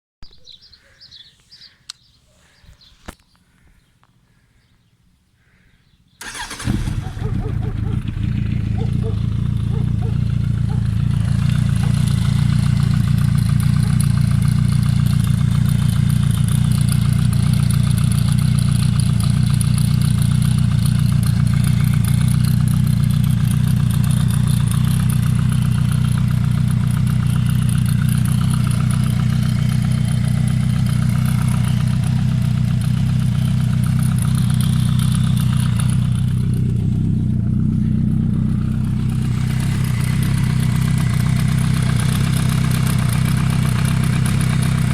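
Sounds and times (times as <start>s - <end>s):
motorcycle engine idling: 6.2s - 44.9s.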